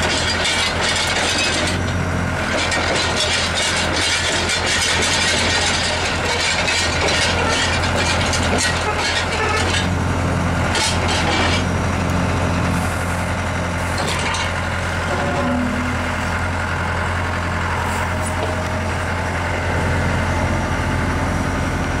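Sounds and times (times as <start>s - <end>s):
excavator diesel engine idling: 0.0s - 22.0s.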